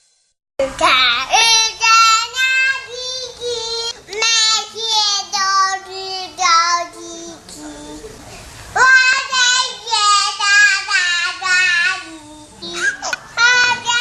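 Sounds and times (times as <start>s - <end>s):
child singing: 0.6s - 8.1s, 8.8s - 14.0s.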